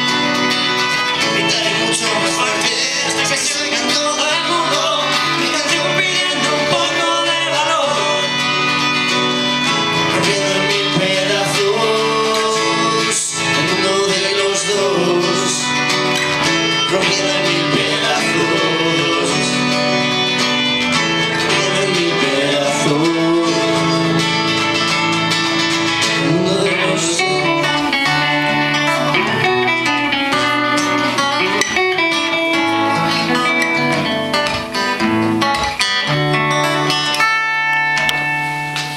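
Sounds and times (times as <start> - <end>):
live pop-rock band with guitars: 0.0 - 38.9.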